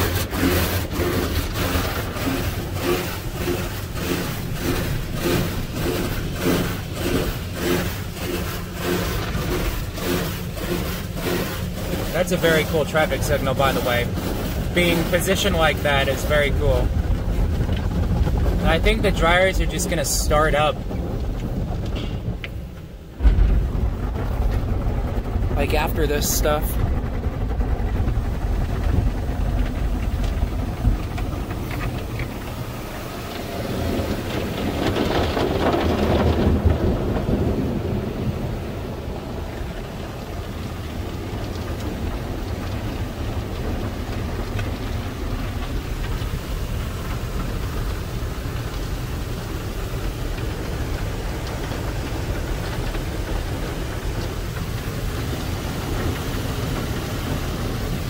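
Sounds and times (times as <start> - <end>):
water spray drumming on car: 0.0 - 58.0.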